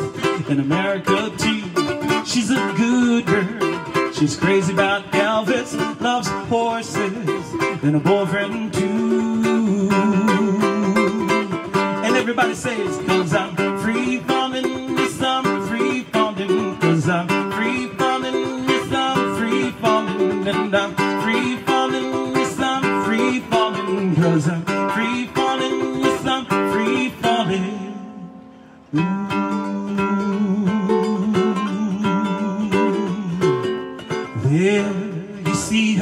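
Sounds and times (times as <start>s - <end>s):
ukulele strumming: 0.0s - 36.0s.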